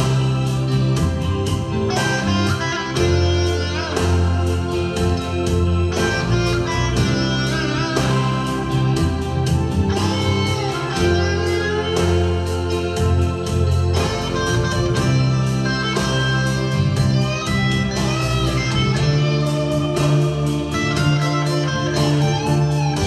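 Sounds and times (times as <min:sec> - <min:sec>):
instrumental guitar music with beat: 0:00.0 - 0:23.0.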